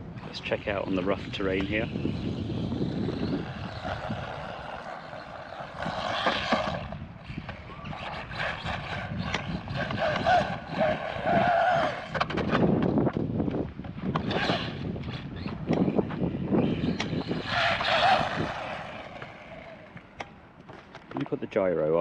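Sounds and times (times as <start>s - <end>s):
electric motor whining: 0.1s - 20.3s.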